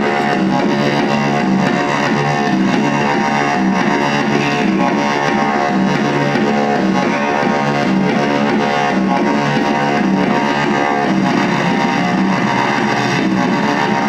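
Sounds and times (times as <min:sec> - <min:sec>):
guitar music: 0:00.0 - 0:14.0.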